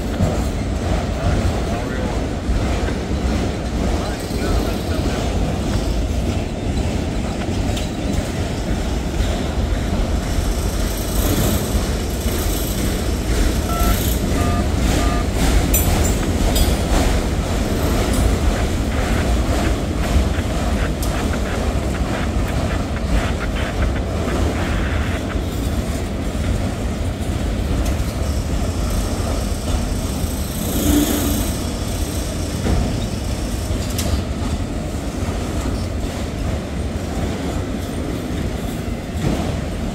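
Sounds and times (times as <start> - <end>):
freight train rumbling past: 0.0 - 39.9
train wheels clacking over rails: 0.0 - 39.9.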